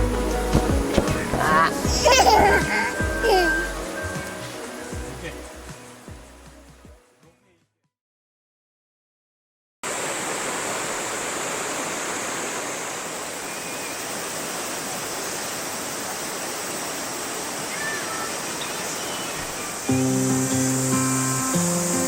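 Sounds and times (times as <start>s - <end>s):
river water rushing: 0.0s - 6.8s, 9.9s - 22.0s.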